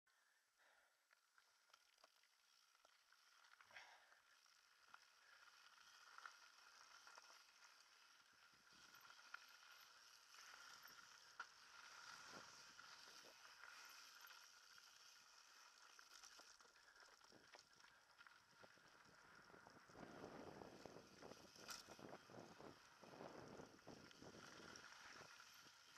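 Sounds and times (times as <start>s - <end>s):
bike rolling on dirt trail: 1.1s - 25.9s.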